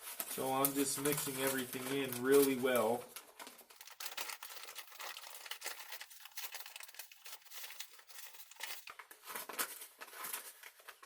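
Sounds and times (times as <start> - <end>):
plastic and granules crinkling: 0.0 - 11.0.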